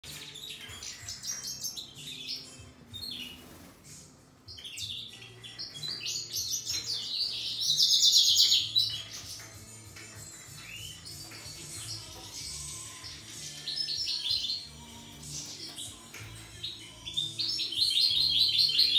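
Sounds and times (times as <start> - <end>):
finches singing and twittering: 0.0 - 18.9.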